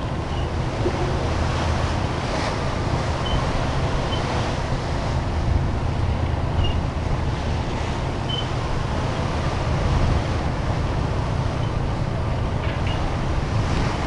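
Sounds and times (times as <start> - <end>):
boat engine drone: 0.0 - 14.0
water rushing past boat hull: 0.0 - 14.0
wind buffeting microphone: 0.0 - 14.0.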